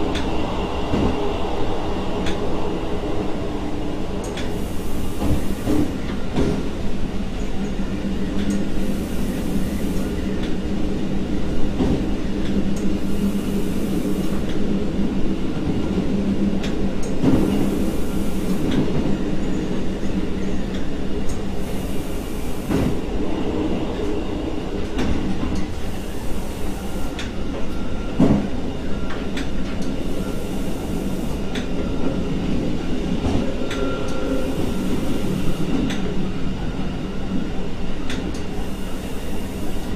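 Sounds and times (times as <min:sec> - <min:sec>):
diesel train engine drone: 0:00.0 - 0:39.9.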